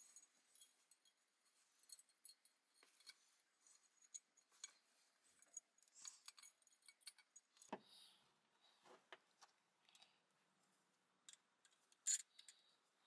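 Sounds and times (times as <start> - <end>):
faint clicks and metallic clinks: 0.0 - 8.2, 9.1 - 13.0.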